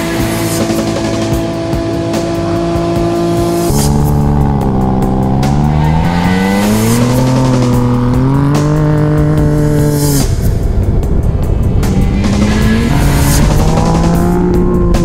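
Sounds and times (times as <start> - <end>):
buggy engine accelerating: 0.0 - 15.0.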